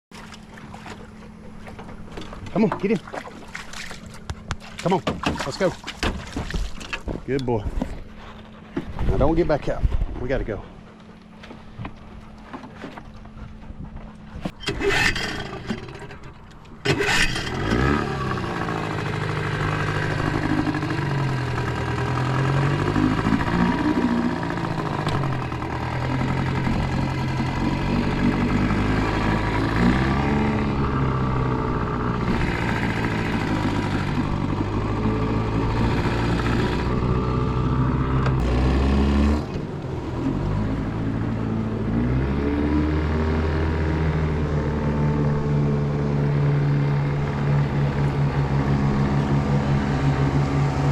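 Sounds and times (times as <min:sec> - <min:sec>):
outboard motor starting and running: 0:00.1 - 0:50.9.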